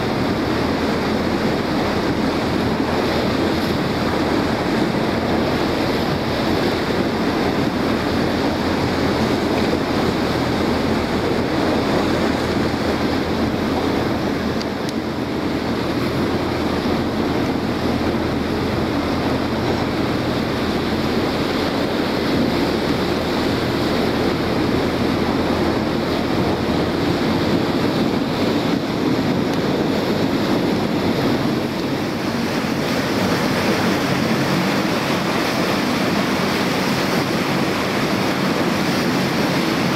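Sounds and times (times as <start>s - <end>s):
low engine drone: 0.0s - 39.9s
water slapping against boat: 0.0s - 39.9s
wind buffeting microphone: 0.0s - 39.9s.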